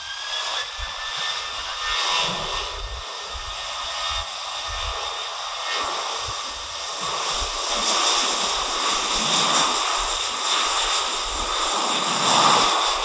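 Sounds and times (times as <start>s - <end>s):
jet engines rushing with high whine: 0.0s - 13.0s.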